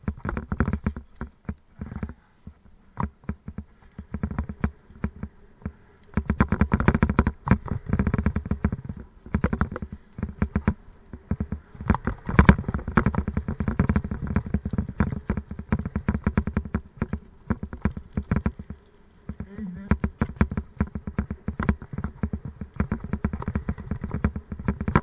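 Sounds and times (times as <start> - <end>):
mountain bike rattling and knocking: 0.0 - 25.0.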